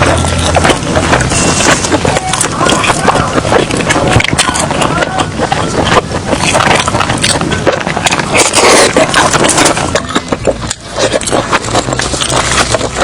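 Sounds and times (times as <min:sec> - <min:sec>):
crunching and chewing seafood: 0:00.0 - 0:13.0.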